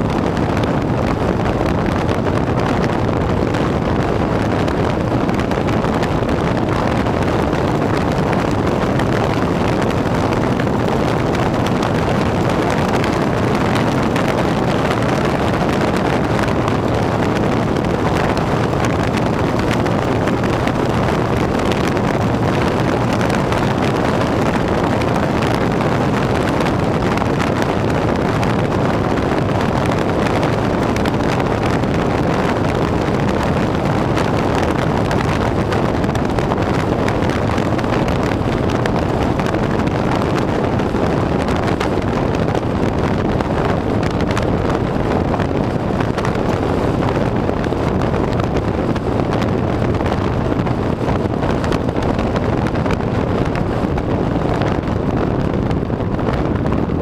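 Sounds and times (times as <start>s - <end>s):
motorcycle running: 0.0s - 57.0s
wind rushing over microphone: 0.0s - 57.0s.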